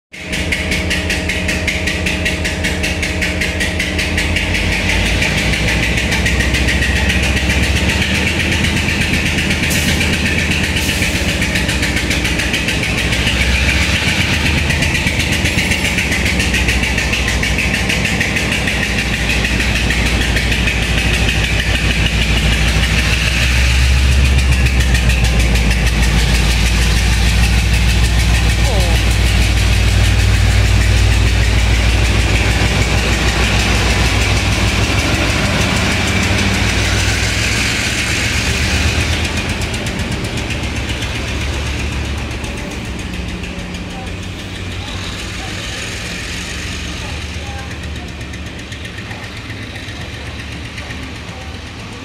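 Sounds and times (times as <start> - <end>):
locomotive diesel engine knocking: 0.1 - 52.0.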